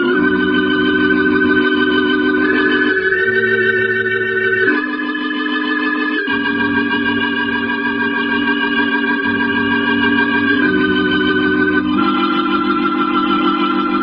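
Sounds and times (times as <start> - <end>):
organ playing slow chords: 0.0 - 14.0.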